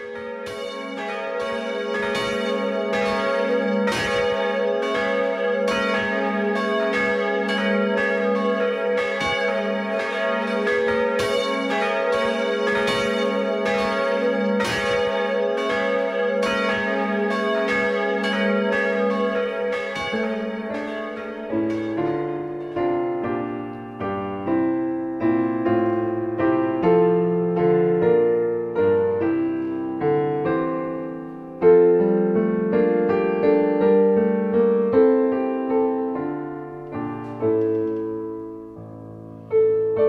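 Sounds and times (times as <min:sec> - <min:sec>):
church bells ringing: 0:00.0 - 0:39.7.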